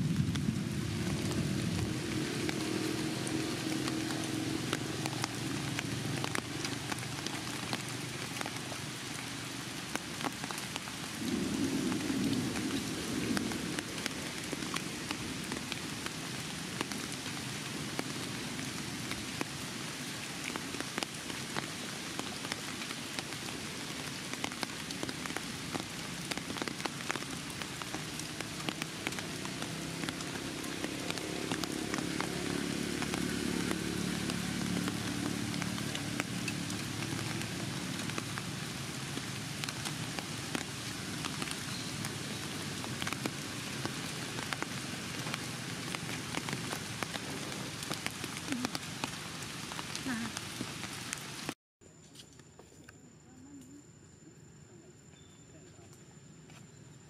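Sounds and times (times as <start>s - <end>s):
rain pattering: 0.0s - 51.6s.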